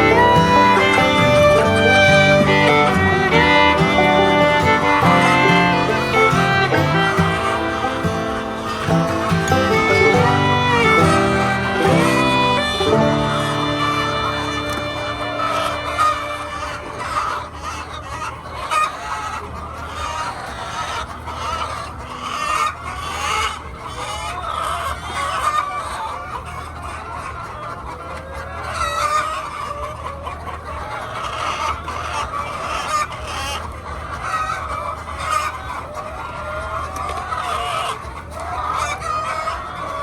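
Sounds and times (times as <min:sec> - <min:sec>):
hens clucking: 0:00.0 - 0:40.0.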